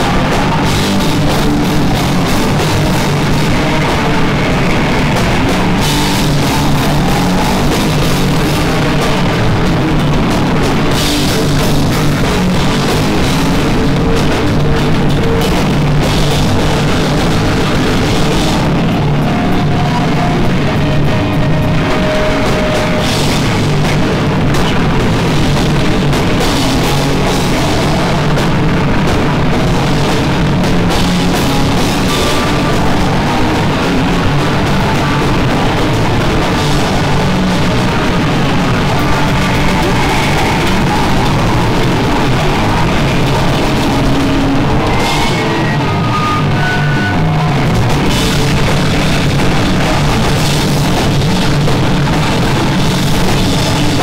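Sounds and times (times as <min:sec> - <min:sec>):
drum kit: 0:00.0 - 0:54.0
electric guitar: 0:00.0 - 0:54.0
rock band playing live: 0:00.0 - 0:54.0.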